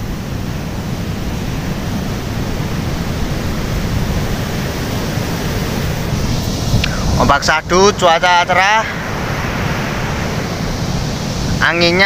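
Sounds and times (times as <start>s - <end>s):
surf breaking on beach: 0.0s - 12.0s
wind rumble on microphone: 0.0s - 12.0s.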